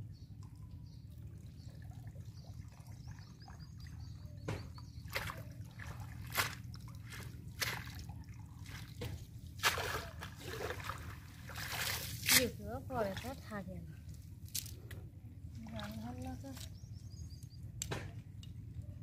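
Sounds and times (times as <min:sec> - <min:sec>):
water trickling and dripping: 0:00.0 - 0:14.7, 0:15.6 - 0:17.5
water splashes and sloshes: 0:00.0 - 0:18.8.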